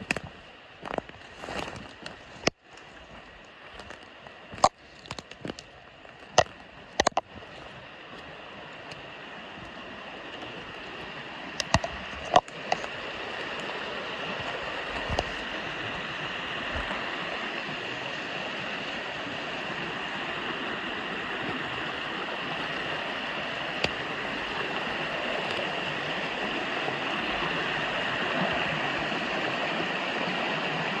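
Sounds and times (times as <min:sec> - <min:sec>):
water rushing in a creek: 0:00.0 - 0:31.0.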